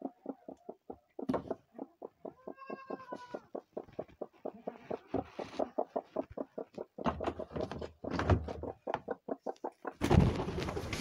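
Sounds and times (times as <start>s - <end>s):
hen clucking: 0.0s - 10.0s.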